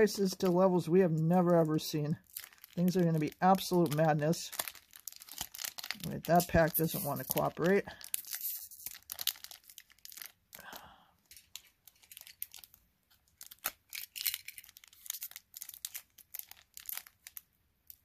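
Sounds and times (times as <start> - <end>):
foil wrapper crinkling and ripping: 0.0 - 18.0.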